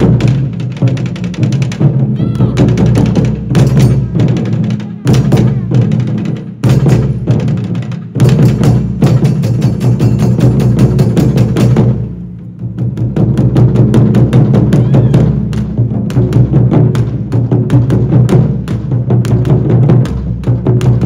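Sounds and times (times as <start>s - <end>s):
drums playing fast beat: 0.0s - 21.0s.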